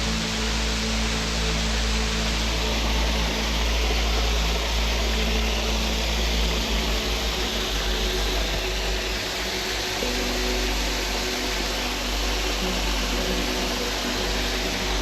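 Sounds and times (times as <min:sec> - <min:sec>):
low rumble: 0:00.0 - 0:15.0
waterfall rushing: 0:00.0 - 0:15.0.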